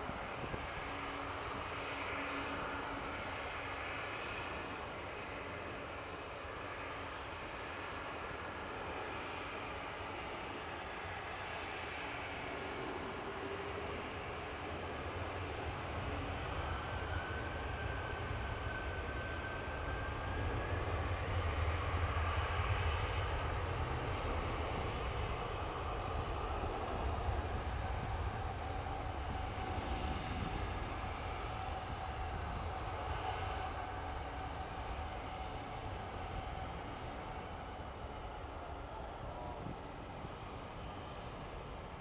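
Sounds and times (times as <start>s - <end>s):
jet engines rumbling and whining: 0.0s - 42.0s.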